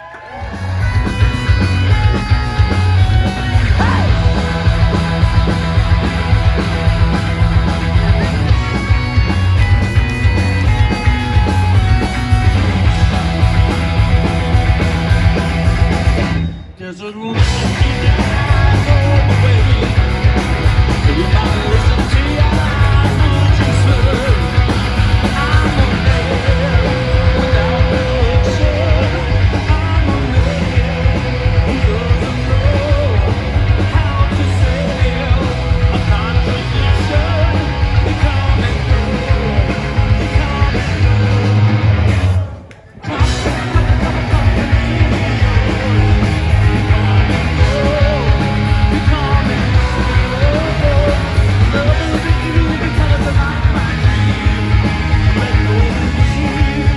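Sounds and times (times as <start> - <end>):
loud rock music: 0.0 - 56.9.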